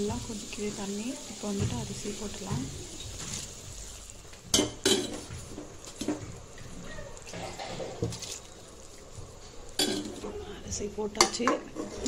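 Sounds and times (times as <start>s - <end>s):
water splashing and bubbling: 0.0s - 10.6s.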